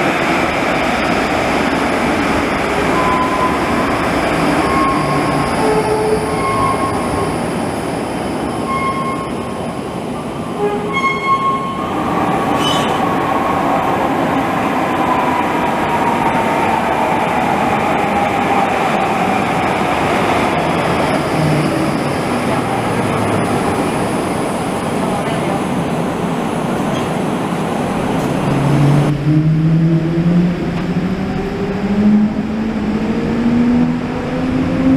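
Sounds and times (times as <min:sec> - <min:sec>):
tram wheels rumbling on rails: 0:00.0 - 0:34.9.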